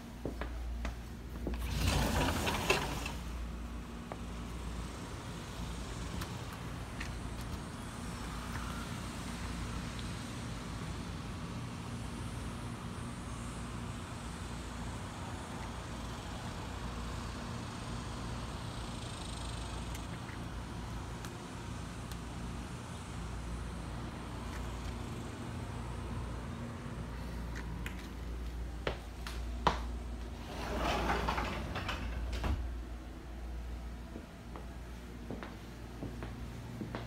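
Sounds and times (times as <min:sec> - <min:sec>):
distant traffic hum: 0:00.0 - 0:37.0.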